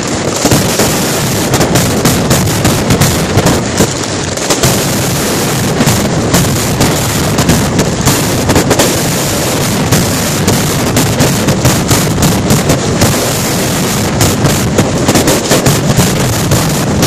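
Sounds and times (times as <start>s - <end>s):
firecracker explosions crackling: 0.0s - 17.0s
sharp bangs: 0.0s - 17.0s.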